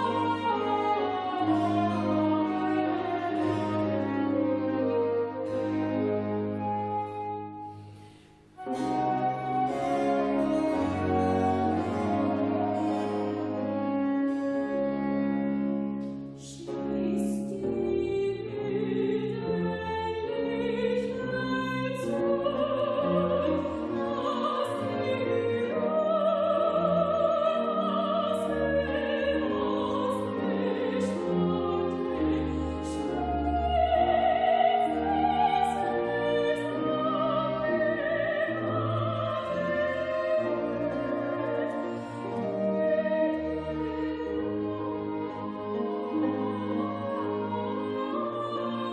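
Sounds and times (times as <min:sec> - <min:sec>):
string ensemble playing: 0:00.0 - 0:48.9.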